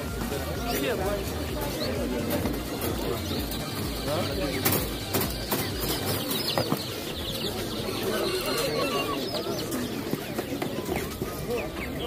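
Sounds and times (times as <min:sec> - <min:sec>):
chickens clucking: 0:00.0 - 0:12.0
chicks peeping: 0:00.0 - 0:12.0.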